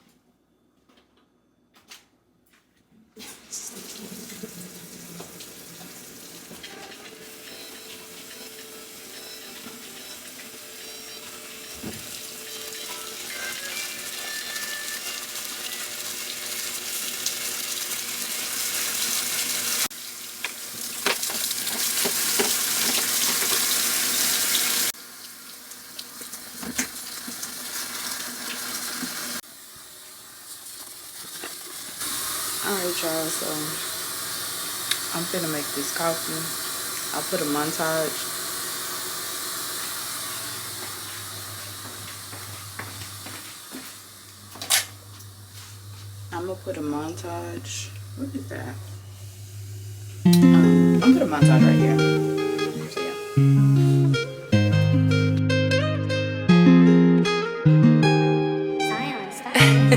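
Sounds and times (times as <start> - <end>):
water running from a tap: 3.2 - 54.4.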